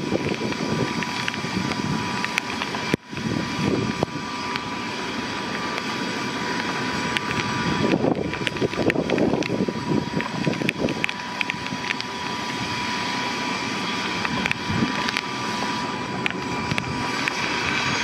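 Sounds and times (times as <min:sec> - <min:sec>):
helicopter rotor noise: 0:00.0 - 0:18.0
helicopter turbine whine: 0:00.0 - 0:18.0
wind buffeting microphone: 0:00.0 - 0:18.0.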